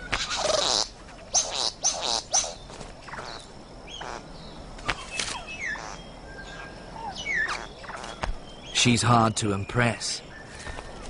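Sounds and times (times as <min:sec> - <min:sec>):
bird buzzy calls: 0:00.0 - 0:09.0.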